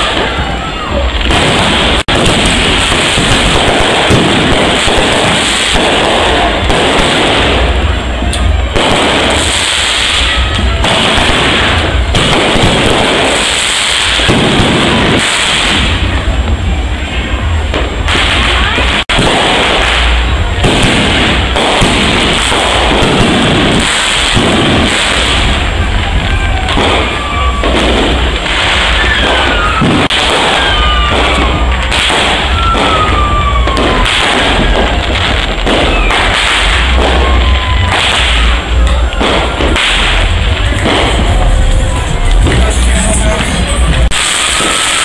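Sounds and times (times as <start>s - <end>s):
falling firework whistles: 0.0s - 16.4s, 18.0s - 45.0s
fireworks bangs and crackle: 0.0s - 45.0s.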